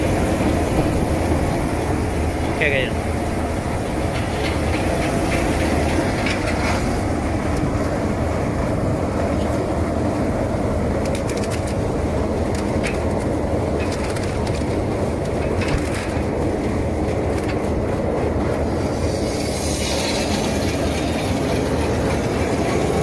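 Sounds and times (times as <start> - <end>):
onion peeling machine rattling rumble: 0.0 - 23.0.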